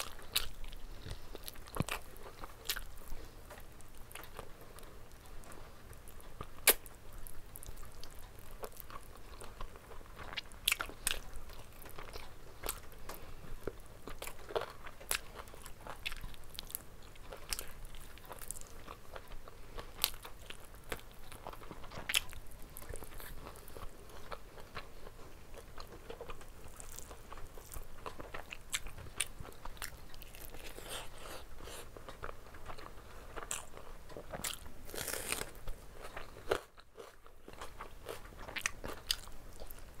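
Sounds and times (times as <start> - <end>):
person chewing meat: 0.0 - 40.0.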